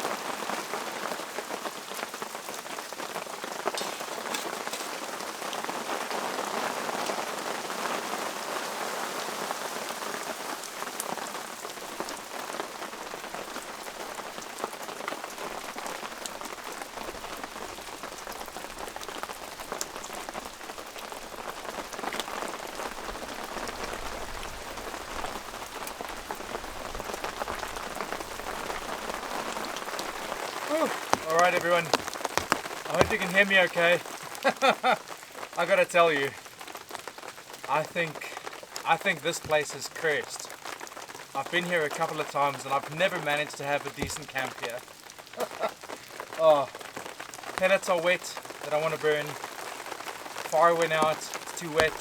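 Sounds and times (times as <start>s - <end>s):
raindrops ticking on a surface: 0.0s - 52.0s
steady rain falling: 0.0s - 52.0s.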